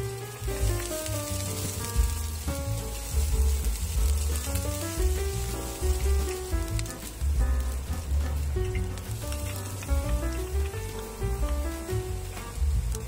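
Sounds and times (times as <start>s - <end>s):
background music: 0.0s - 13.0s
onion sizzling in oil: 0.0s - 13.0s.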